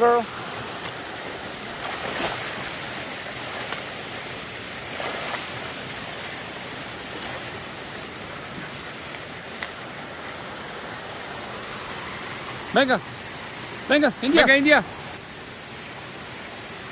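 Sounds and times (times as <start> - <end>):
creek water flowing: 0.0 - 16.9.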